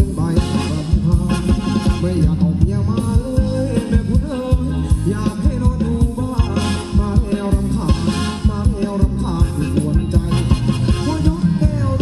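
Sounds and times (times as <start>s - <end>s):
band playing dance music: 0.0s - 12.0s.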